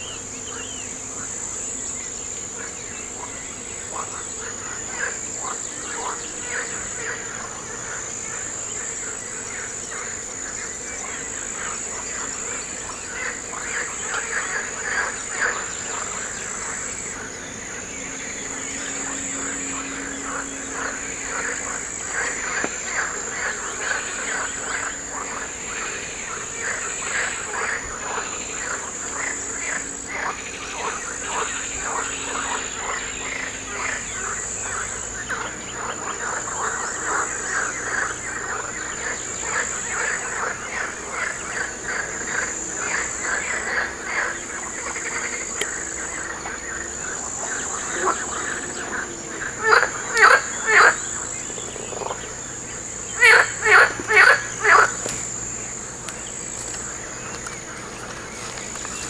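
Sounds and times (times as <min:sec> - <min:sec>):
frogs croaking: 0:00.0 - 0:59.0
high-pitched insect trill: 0:00.0 - 0:59.0.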